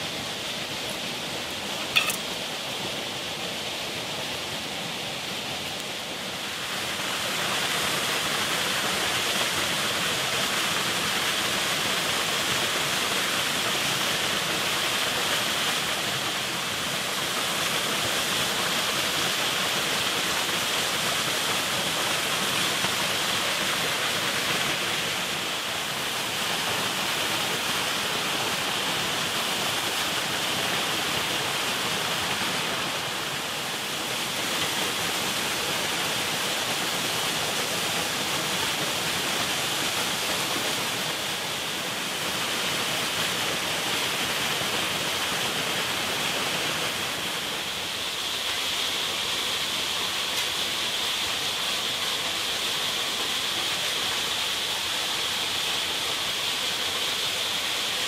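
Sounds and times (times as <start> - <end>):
fast-flowing water rushing: 0.0 - 58.0.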